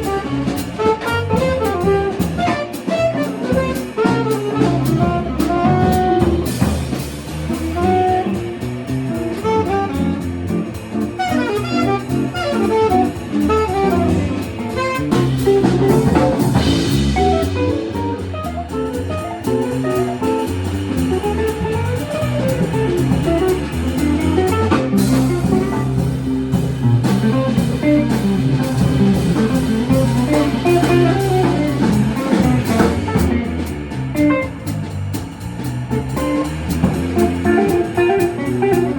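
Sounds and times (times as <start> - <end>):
bass line: 0.0 - 38.9
drum kit: 0.0 - 38.9
guitar picking quick runs: 0.0 - 38.9.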